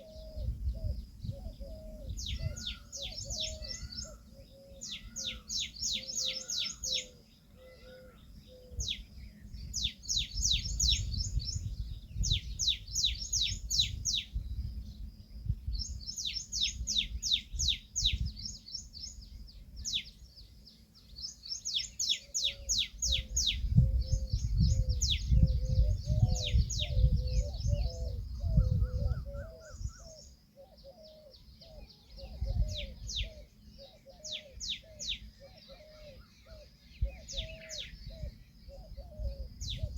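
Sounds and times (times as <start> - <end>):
lower warbling bird call: 0.0 - 14.4, 21.3 - 39.9.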